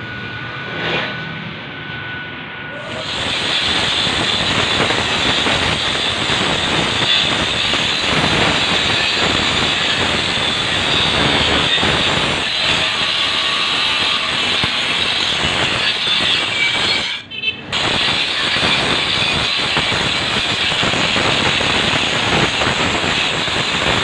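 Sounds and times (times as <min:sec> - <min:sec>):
angle grinder grinding metal: 0:02.8 - 0:24.0.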